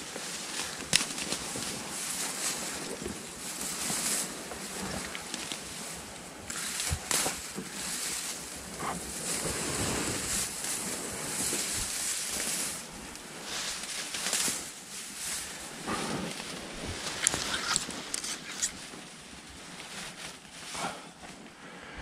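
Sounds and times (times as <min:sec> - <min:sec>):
hull brushing through weeds: 0:00.0 - 0:21.2.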